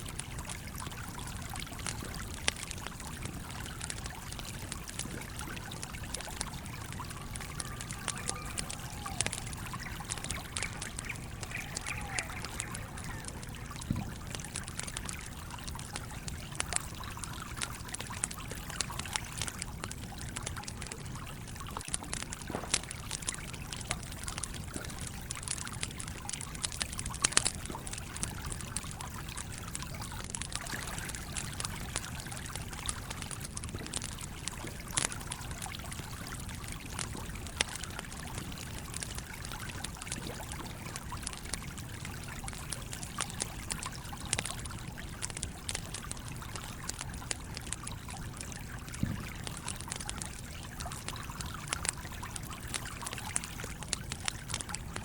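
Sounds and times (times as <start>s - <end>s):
campfire crackling and popping: 0.0s - 55.0s
stream flowing: 0.0s - 55.0s.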